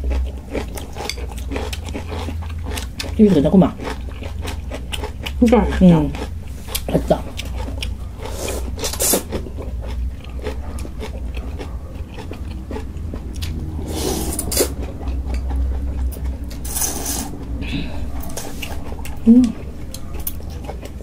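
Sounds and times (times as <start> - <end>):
chewing and mouth sounds: 0.0 - 21.0
steady low hum: 0.0 - 21.0.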